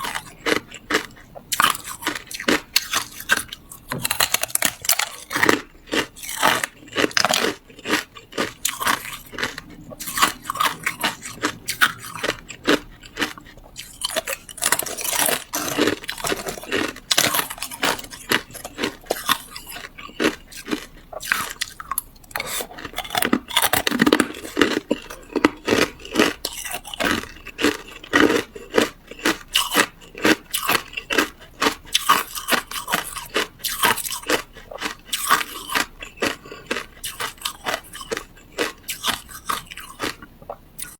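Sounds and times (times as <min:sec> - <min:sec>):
person crunching ice: 0:00.0 - 0:40.2.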